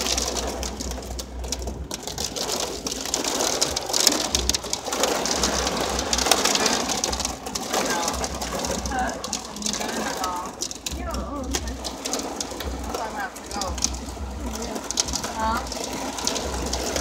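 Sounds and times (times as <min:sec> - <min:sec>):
heavy rain on car roof: 0:00.0 - 0:17.0.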